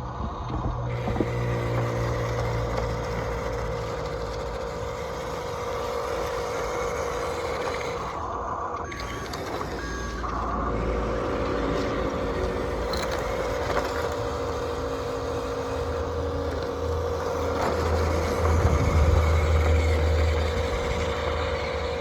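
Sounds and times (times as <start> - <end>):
toy vehicle motor humming: 0.0 - 22.0.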